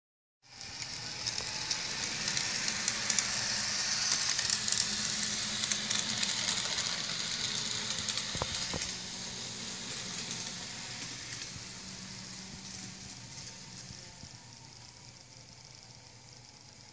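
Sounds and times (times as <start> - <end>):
model train running on track: 0.4 - 16.9.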